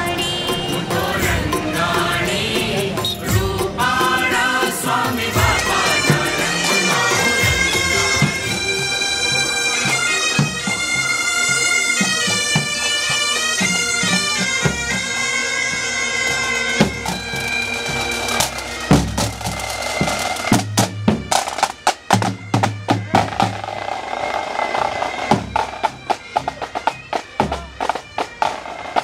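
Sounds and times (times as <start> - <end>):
bagpipe drone: 0.0 - 29.0
bagpipes playing marching tune: 0.0 - 29.0.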